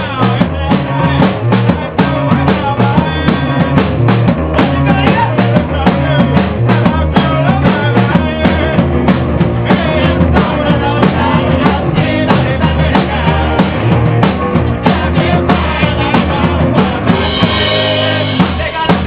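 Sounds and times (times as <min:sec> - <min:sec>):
drum kit beat: 0:00.0 - 0:19.0
rock band playing: 0:00.0 - 0:19.0.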